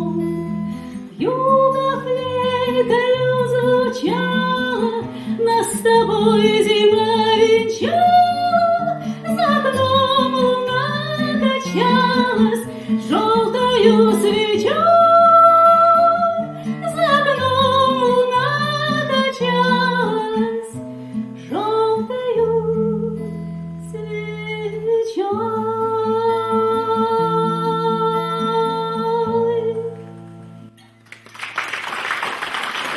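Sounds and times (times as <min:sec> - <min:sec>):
woman singing wordless melody: 0:00.0 - 0:20.8, 0:21.4 - 0:30.2
acoustic guitar: 0:00.0 - 0:31.6.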